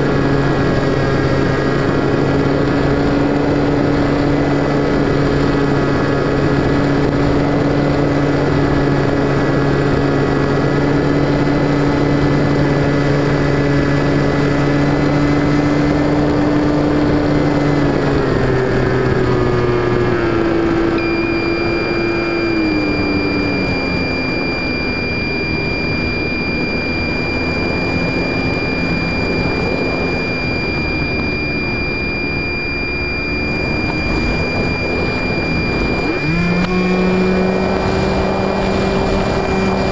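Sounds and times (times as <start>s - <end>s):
electric motor and propeller: 0.0s - 39.9s
thin high whine: 0.0s - 39.9s
wind noise: 0.0s - 39.9s.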